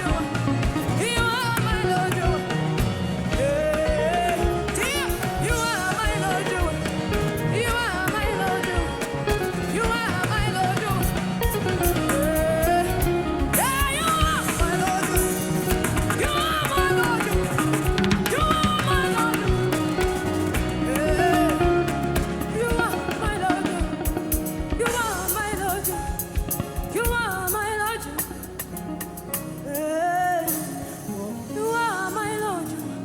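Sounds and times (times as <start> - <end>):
person singing: 0.0 - 28.8
worship band playing: 0.0 - 31.5.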